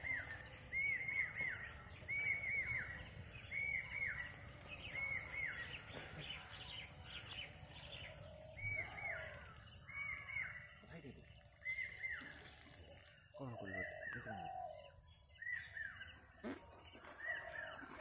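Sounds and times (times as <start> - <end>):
bird calling: 0.0 - 18.0
other birds chirping: 0.0 - 18.0.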